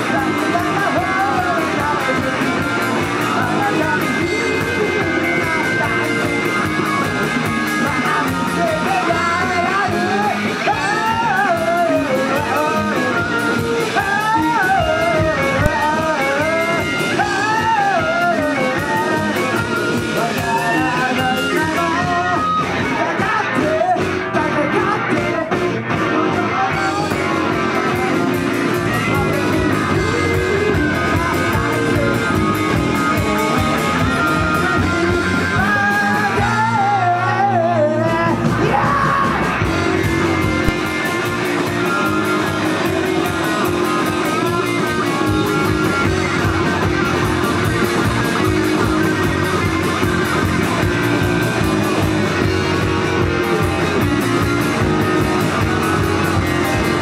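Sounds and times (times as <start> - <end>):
bending lead guitar line: 0.0 - 57.0
live rock band playing: 0.0 - 57.0
person singing: 0.0 - 57.0.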